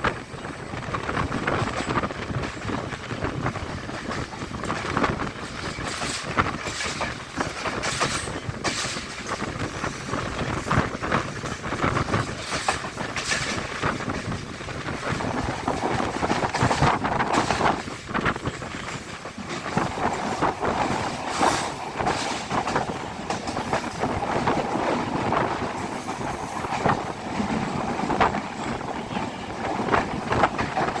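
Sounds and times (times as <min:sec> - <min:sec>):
train running noise: 0:00.0 - 0:31.0
train wheels clattering on rails: 0:00.0 - 0:31.0.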